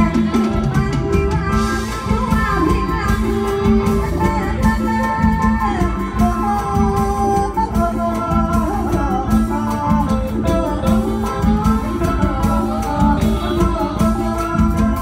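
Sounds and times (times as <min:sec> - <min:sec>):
band playing steady beat: 0:00.0 - 0:15.0
woman singing gliding melody: 0:00.0 - 0:15.0.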